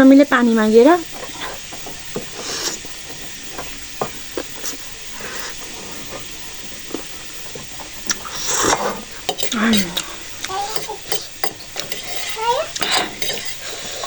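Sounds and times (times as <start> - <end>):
steady hiss: 0.0 - 14.0
light eating clicks: 1.0 - 14.0.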